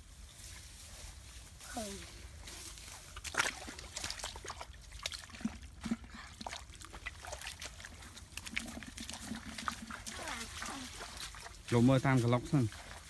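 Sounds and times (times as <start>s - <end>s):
stream water sloshing and trickling: 0.2s - 13.0s
feet wading through water: 2.4s - 13.0s.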